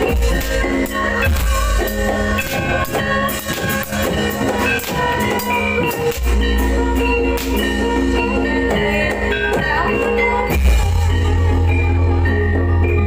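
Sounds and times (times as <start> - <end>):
drumming: 0.0 - 13.0
gamelan music: 0.0 - 13.0
ringing metal percussion: 0.0 - 13.0.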